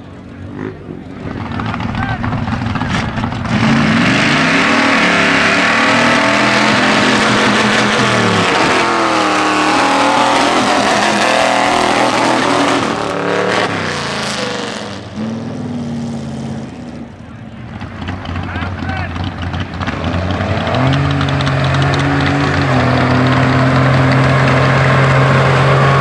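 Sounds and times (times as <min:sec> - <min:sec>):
truck engine revving hard: 0:00.4 - 0:26.0.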